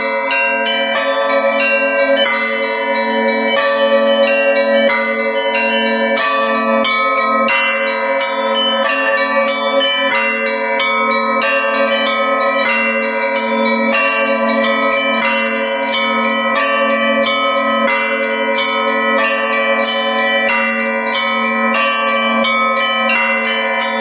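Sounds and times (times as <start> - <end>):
church bells pealing: 0.0 - 24.0
low bells ringing: 0.0 - 24.0.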